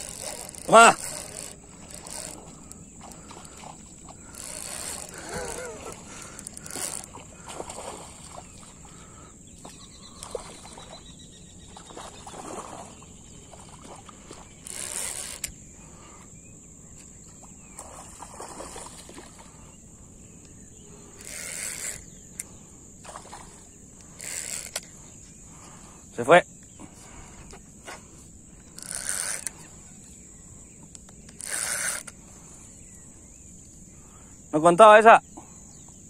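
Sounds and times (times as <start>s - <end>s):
high-pitched insect drone: 0.0s - 36.0s.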